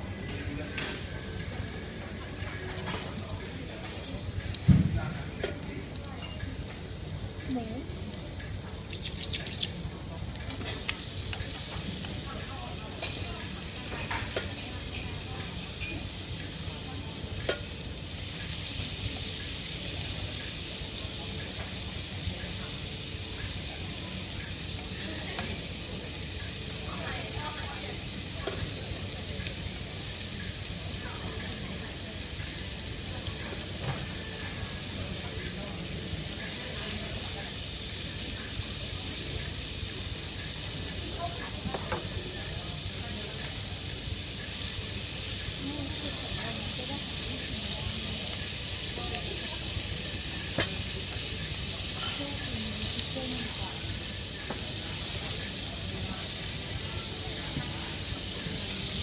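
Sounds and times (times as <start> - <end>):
meat and onions sizzling: 0.1 - 59.0.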